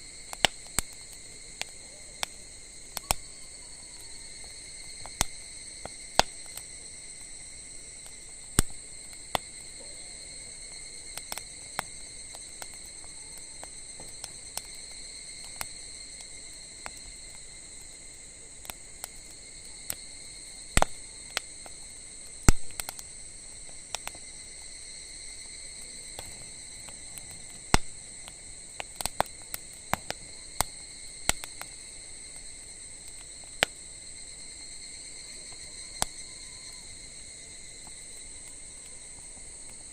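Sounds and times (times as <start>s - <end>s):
insects chorus: 0.0s - 39.9s
wood fire crackling and popping: 0.0s - 39.9s.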